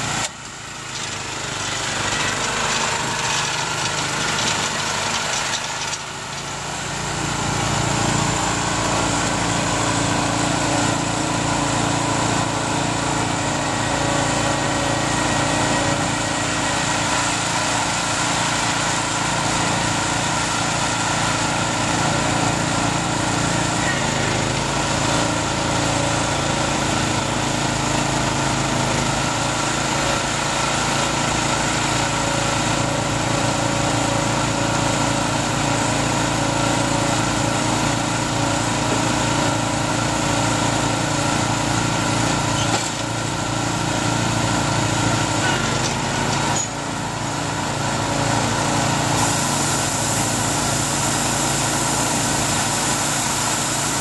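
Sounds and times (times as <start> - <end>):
bale wrapper engine running: 0.0 - 54.0.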